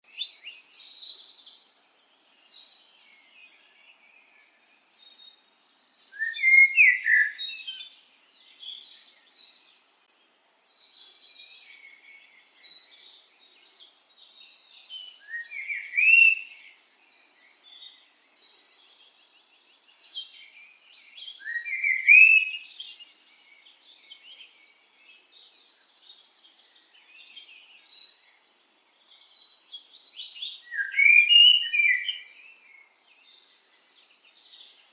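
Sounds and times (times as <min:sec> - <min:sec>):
birds twittering and chirping: 0:00.0 - 0:34.9
songbirds singing: 0:00.0 - 0:34.9.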